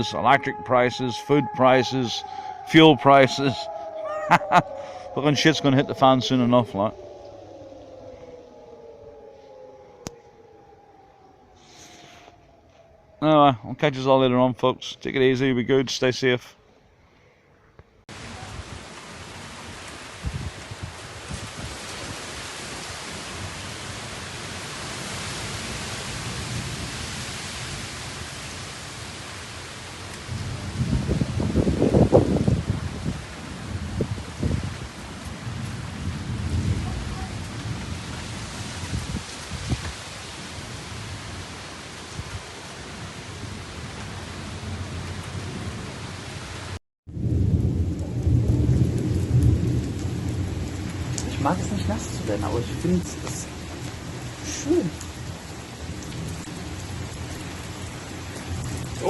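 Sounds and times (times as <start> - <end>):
steady rain hissing: 0.0 - 10.6, 11.4 - 12.4, 18.1 - 59.0
thunder rumbling: 0.0 - 13.7, 18.1 - 59.0.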